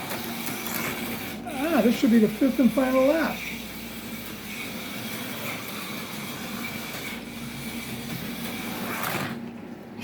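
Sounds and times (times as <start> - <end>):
slot car motor whine: 0.0 - 9.4.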